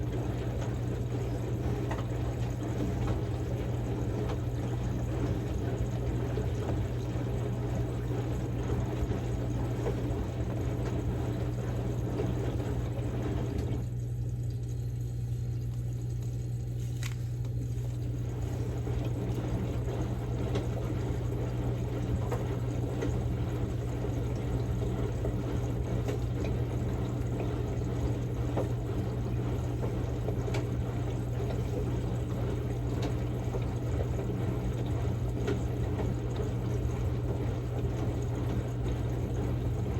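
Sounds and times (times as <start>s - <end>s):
washing machine motor hum: 0.0s - 39.9s
water sloshing and splashing: 0.0s - 39.9s.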